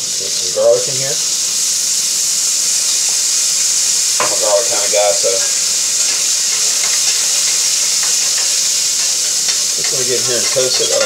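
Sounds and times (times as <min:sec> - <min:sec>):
butter sizzling in a frying pan: 0:00.0 - 0:11.0.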